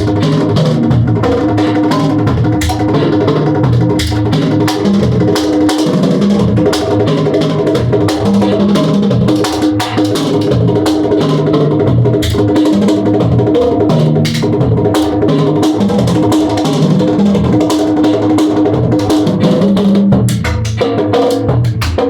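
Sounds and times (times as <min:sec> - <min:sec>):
bass line: 0:00.0 - 0:22.0
drum kit beat: 0:00.0 - 0:22.0.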